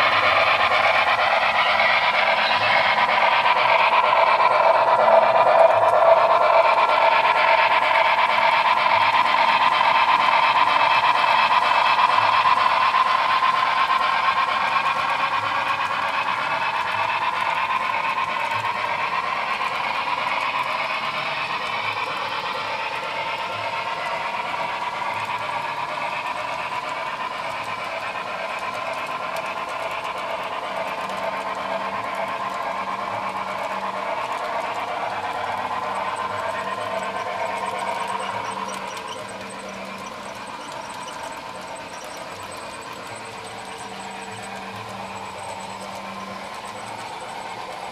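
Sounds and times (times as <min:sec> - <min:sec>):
model train whirring on track: 0:00.0 - 0:47.9.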